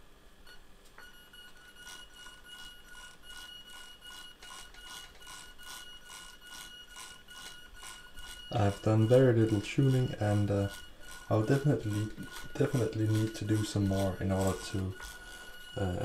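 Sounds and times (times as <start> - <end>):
small motors whining: 1.0 - 16.0.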